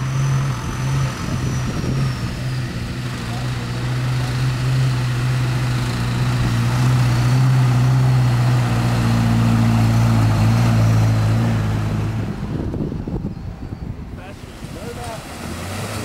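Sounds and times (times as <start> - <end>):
pickup truck engine running: 0.0 - 13.3.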